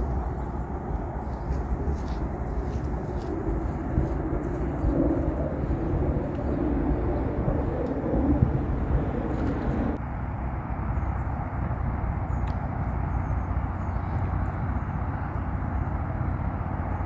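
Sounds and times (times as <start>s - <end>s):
low outdoor rumble with hiss: 0.0s - 17.0s.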